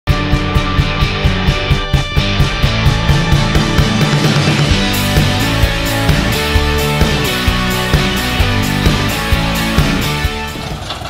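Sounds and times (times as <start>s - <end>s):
fast rock music: 0.0s - 10.9s.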